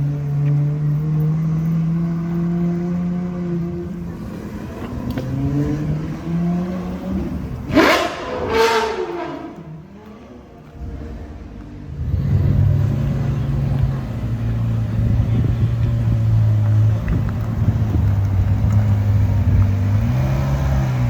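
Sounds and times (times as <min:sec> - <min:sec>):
supercar engine running: 0:00.0 - 0:21.0
engine revving: 0:00.7 - 0:21.0.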